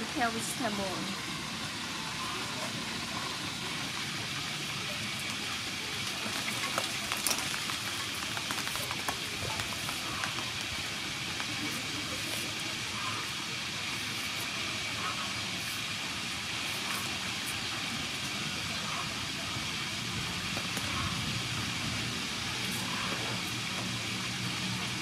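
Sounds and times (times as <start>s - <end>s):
steady hissing noise: 0.0s - 25.0s.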